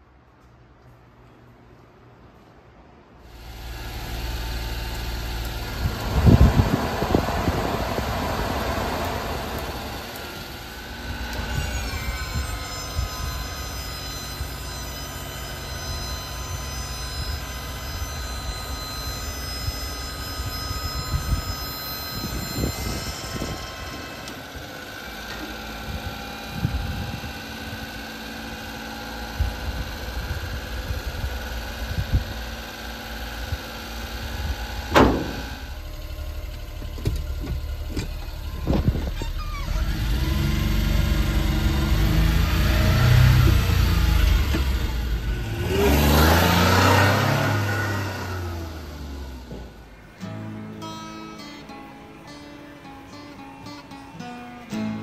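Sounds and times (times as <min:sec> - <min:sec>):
truck engine idling: 0:03.3 - 0:50.2
steady tonal whine: 0:03.3 - 0:55.0.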